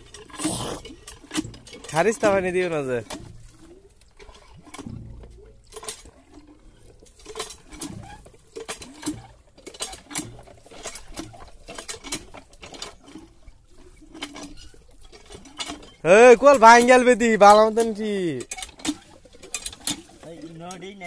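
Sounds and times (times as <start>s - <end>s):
hand pump clicks and knocks: 0.0s - 21.0s
pump squeaks: 0.0s - 21.0s.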